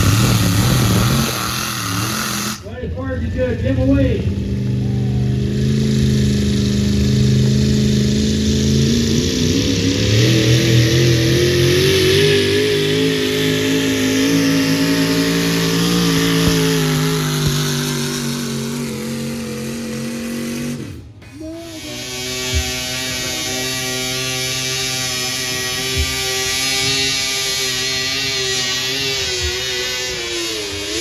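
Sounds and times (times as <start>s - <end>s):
vehicle engine running hard: 0.0s - 31.0s.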